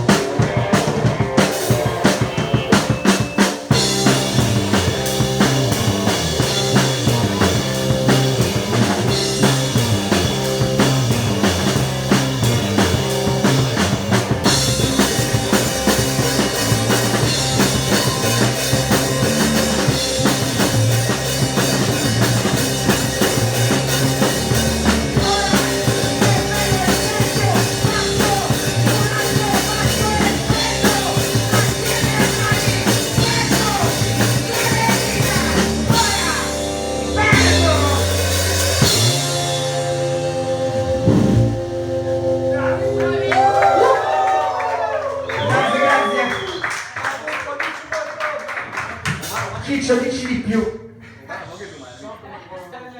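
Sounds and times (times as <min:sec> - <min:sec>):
pounding drum kit: 0:00.0 - 0:44.4
punk rock band playing: 0:00.0 - 0:44.8.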